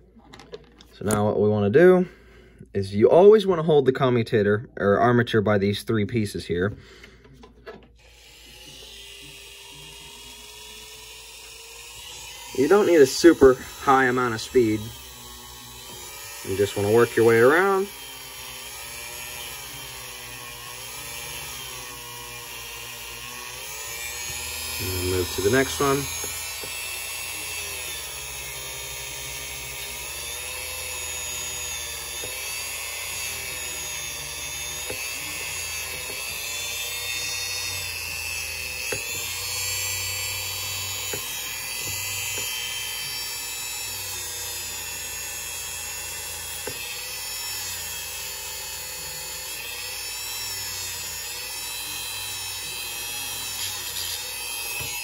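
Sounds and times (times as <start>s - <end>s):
rotary tool whine: 6.9s - 55.0s.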